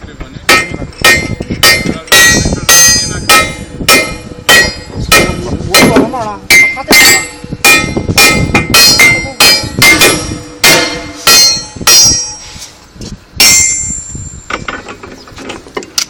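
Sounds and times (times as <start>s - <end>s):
hammer striking metal: 0.5s - 12.7s, 13.4s - 14.8s.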